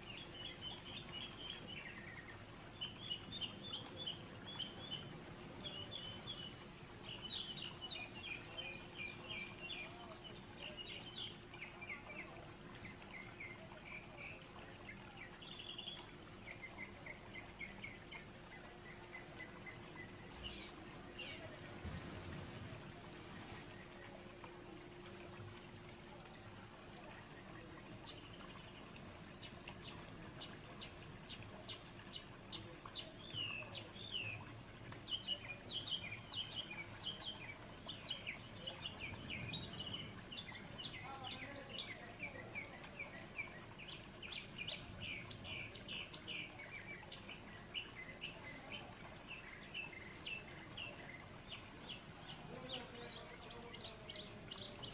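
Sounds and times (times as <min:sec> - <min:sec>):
small birds chirping: 0:00.0 - 0:22.0, 0:22.7 - 0:54.9
faint background hiss: 0:00.0 - 0:54.9.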